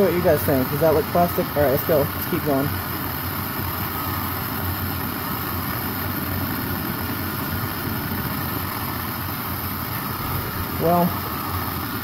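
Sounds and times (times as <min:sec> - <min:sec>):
torch flame hissing: 0:00.0 - 0:12.0.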